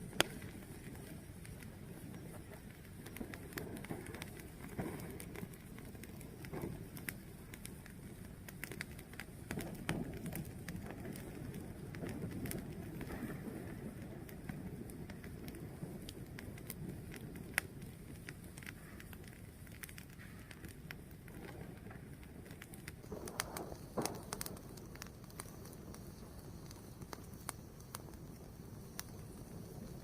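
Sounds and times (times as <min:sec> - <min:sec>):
fire crackling and popping: 0:00.0 - 0:30.0
fire rumbling: 0:00.0 - 0:30.0.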